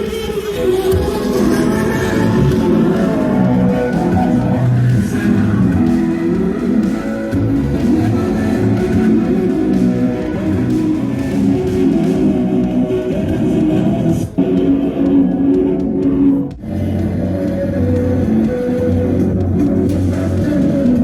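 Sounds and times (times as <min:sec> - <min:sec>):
loud music with guitar: 0:00.0 - 0:21.0.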